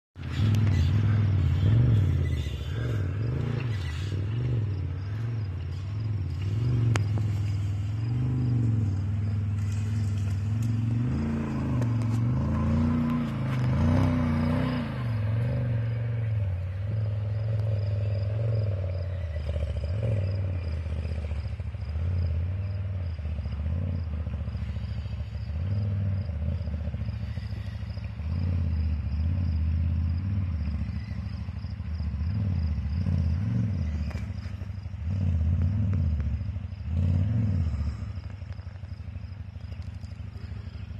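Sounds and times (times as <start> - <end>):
engine revving: 0.2 - 40.9.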